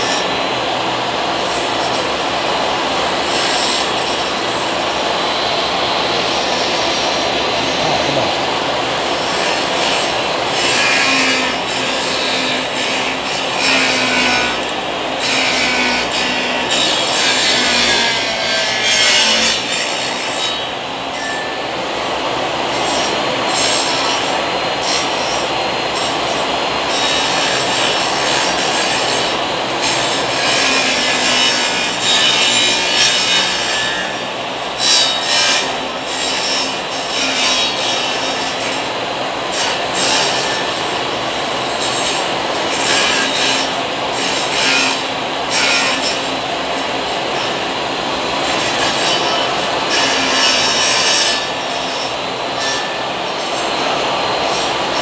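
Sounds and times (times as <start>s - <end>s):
power saw cutting wood: 0.0s - 55.0s.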